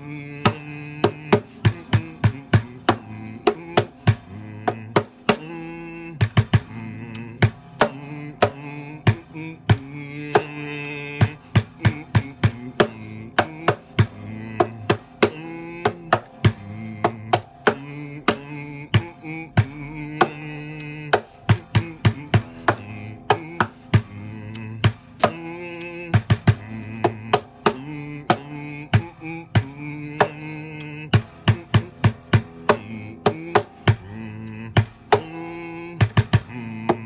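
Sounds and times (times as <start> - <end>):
sharp percussive clicks: 0.0 - 37.0
sustained pitched notes: 0.0 - 37.0.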